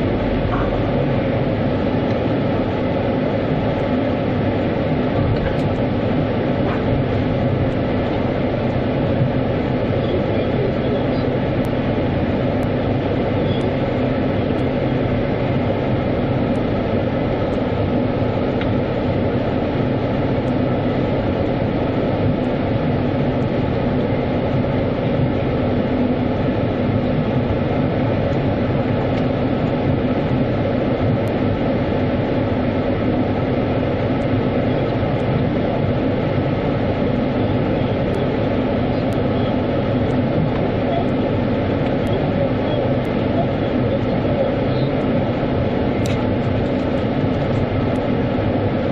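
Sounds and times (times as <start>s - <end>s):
car wash rumble and spray: 0.0s - 48.9s.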